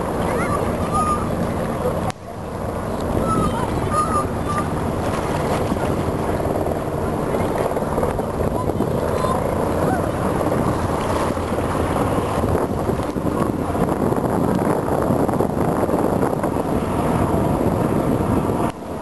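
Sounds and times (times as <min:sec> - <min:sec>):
helicopters droning overhead: 0:00.0 - 0:19.0
wind noise on microphone: 0:00.0 - 0:19.0.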